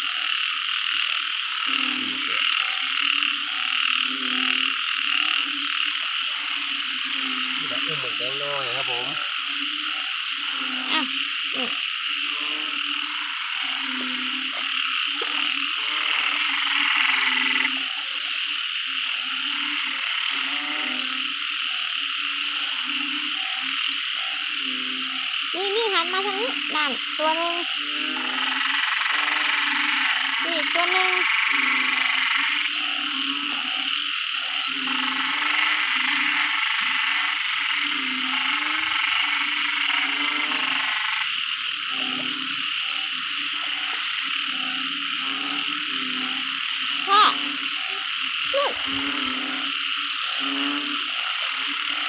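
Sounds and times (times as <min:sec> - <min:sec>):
frogs croaking: 0:00.0 - 0:52.0
hiss of massed frog calling: 0:00.0 - 0:52.0.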